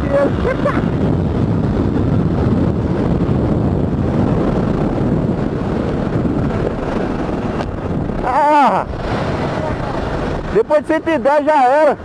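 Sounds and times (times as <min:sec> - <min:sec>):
motorcycle engine at high speed: 0:00.0 - 0:12.0
wind buffeting microphone: 0:00.0 - 0:12.0.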